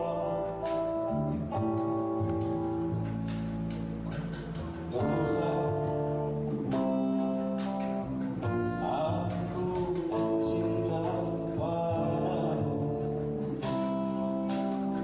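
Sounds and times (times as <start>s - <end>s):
electric bass: 0.0s - 15.0s
strummed acoustic guitar: 0.0s - 15.0s.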